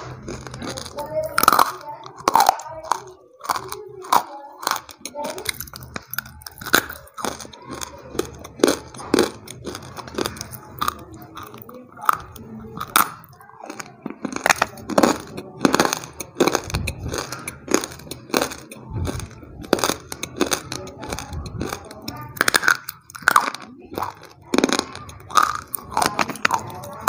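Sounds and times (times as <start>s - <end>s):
crunching hard chunks: 0.0s - 27.0s
food crumbling: 0.0s - 27.0s.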